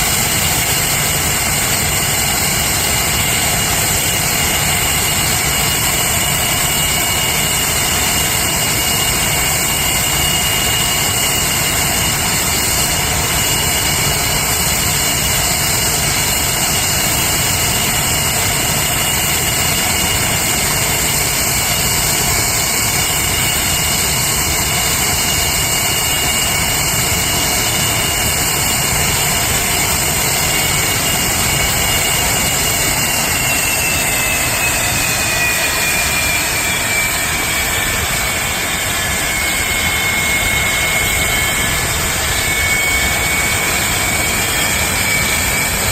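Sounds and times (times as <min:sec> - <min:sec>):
high turbine whine: 0:00.0 - 0:45.9
jet engines rushing: 0:00.0 - 0:45.9.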